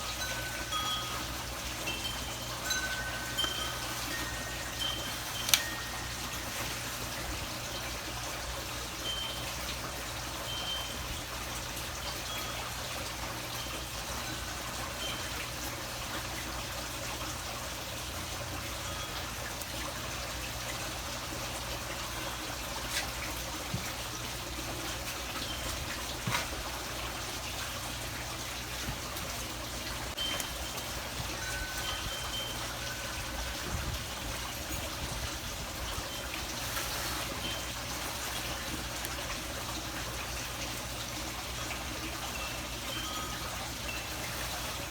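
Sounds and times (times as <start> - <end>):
water trickling: 0.0 - 44.9.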